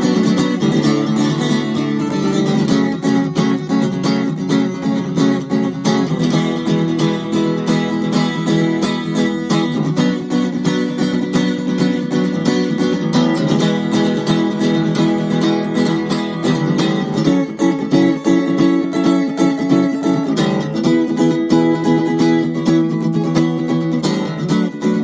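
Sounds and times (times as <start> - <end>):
acoustic guitar strumming chords: 0.0 - 25.0.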